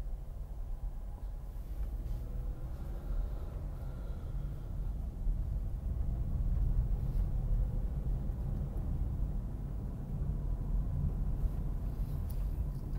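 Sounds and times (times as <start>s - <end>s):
car driving on rough road: 0.0s - 12.9s.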